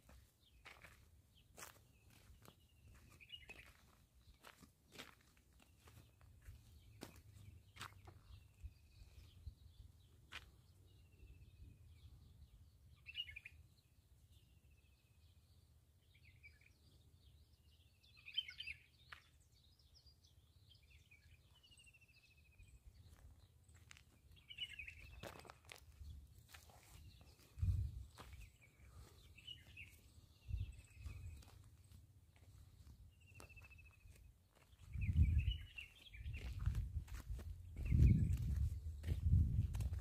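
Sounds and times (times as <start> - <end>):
bird chirping: 0.4 - 40.0.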